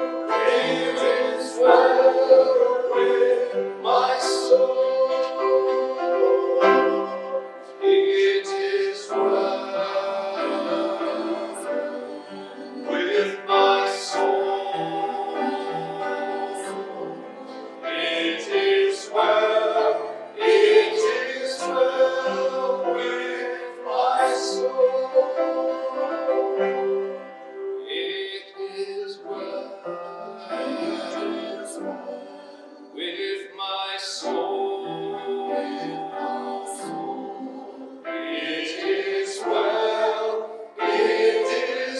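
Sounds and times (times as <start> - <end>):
instrumental accompaniment: 0.0 - 33.1, 34.2 - 41.9
voices singing sustained notes: 0.0 - 41.9.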